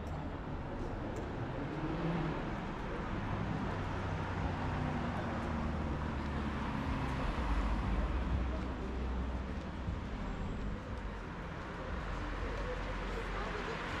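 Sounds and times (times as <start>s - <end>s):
car engines passing: 0.0s - 14.0s.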